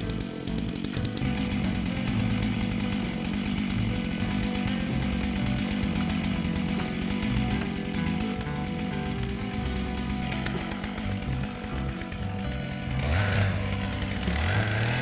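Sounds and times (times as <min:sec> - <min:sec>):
chainsaw running under throttle: 0:00.0 - 0:15.0
music with bass beat: 0:00.0 - 0:15.0.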